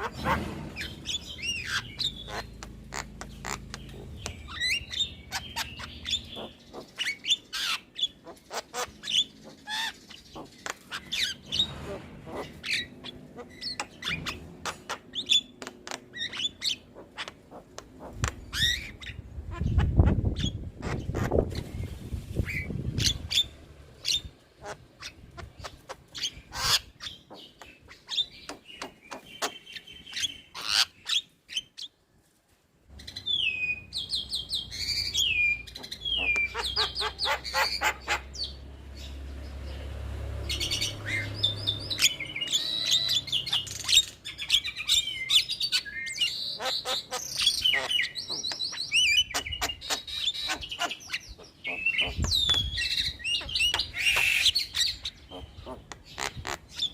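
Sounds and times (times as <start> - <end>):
squeaky scratchy bird calls: 0.0 - 21.7, 22.4 - 32.0, 33.0 - 38.6, 40.5 - 56.9.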